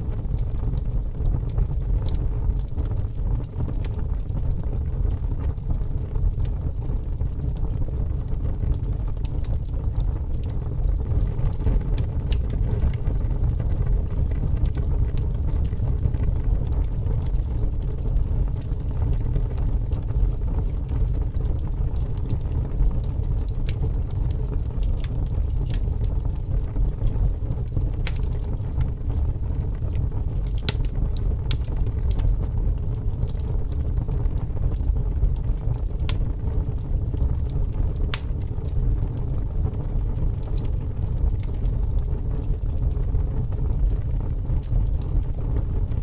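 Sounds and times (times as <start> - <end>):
fire burning with low rumble: 0.0 - 46.0
fire crackling and popping: 0.0 - 46.0.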